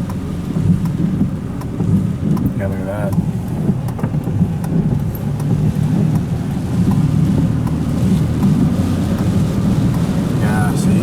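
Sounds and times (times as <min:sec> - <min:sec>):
light ticks: 0:00.0 - 0:10.8
car engine and tyre rumble: 0:00.0 - 0:11.0.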